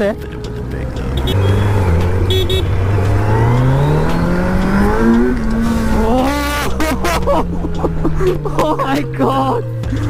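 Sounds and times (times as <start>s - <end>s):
motorcycle engine accelerating: 0.2s - 8.8s.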